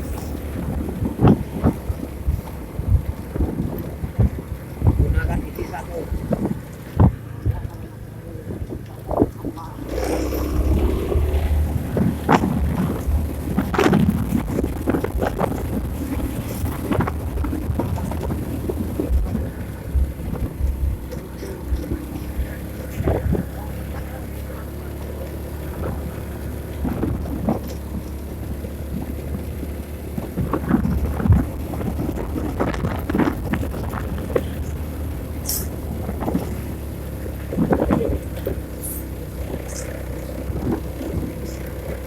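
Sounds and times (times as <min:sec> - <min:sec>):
vehicle engine running: 0:00.0 - 0:42.0
wind noise: 0:00.0 - 0:42.0.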